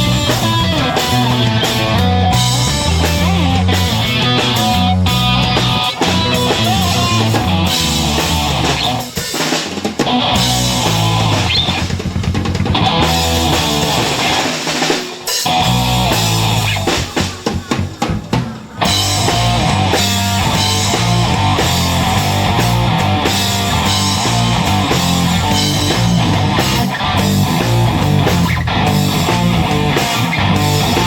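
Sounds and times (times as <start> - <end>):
drum hits: 0.0 - 31.0
heavy rock band playing: 0.0 - 31.0.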